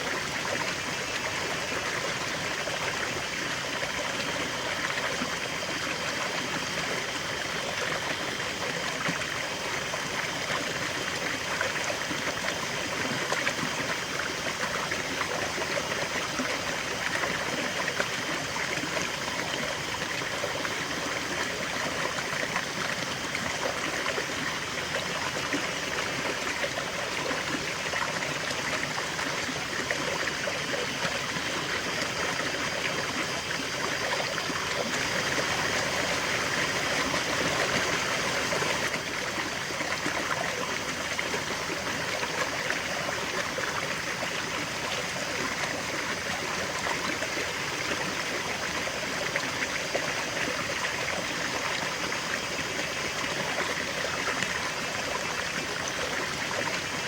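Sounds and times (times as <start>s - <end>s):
river water babbling over stones: 0.0s - 57.0s.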